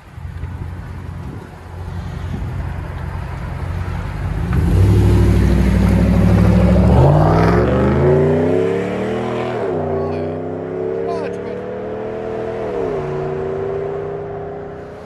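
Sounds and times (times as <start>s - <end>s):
truck engine idling and accelerating: 0.0s - 15.0s.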